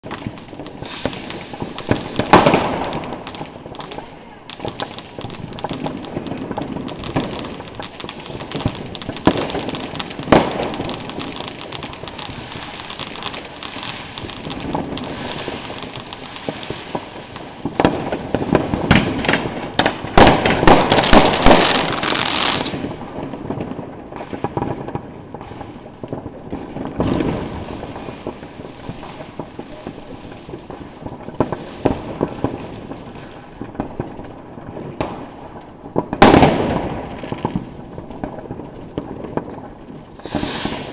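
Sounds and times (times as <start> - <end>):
firework fountain hissing and crackling: 0.0 - 40.9
roman candle shots: 0.0 - 40.9.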